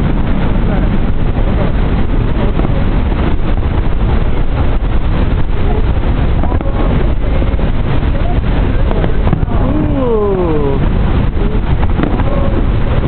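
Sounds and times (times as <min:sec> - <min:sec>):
loud rushing rumble: 0:00.0 - 0:13.0
faint voices: 0:00.5 - 0:13.0.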